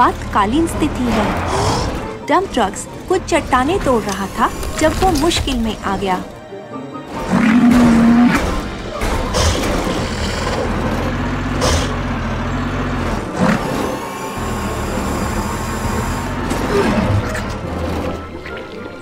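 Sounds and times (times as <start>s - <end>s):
heavy engine drone: 0.0s - 5.2s, 7.2s - 18.3s.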